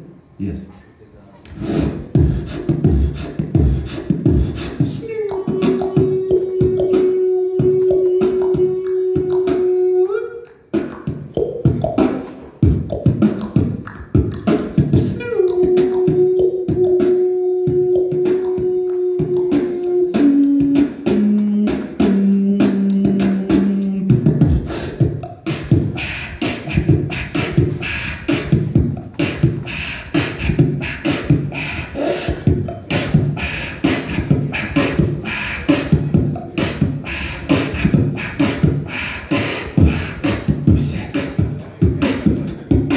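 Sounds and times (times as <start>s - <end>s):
beatboxing through a microphone: 1.4s - 42.9s.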